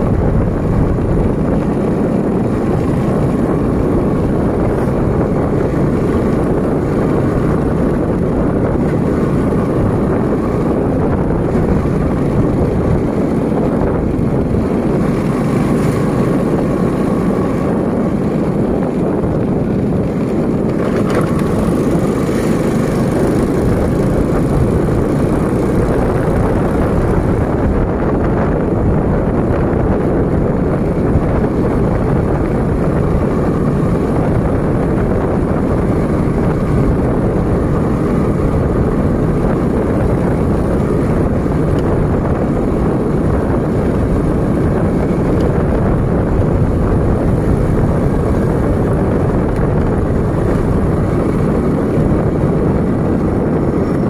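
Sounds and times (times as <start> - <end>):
vehicle engine running: 0.0 - 54.0
wind rushing across microphone: 0.0 - 54.0.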